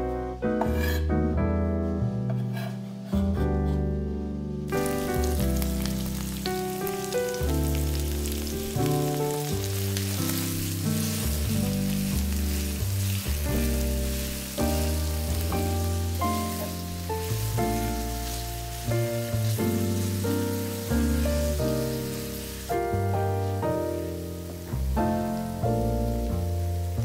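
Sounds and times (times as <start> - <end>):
background music: 0.0 - 27.0
onions sizzling in a pan: 4.7 - 27.0.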